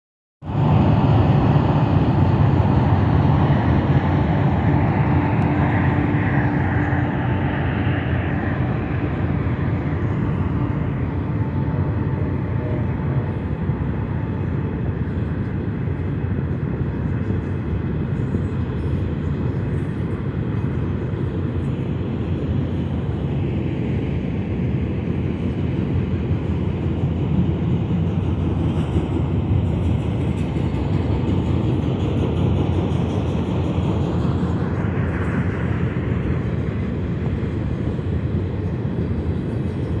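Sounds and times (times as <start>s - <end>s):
freight train rumbling: 0.4s - 40.0s.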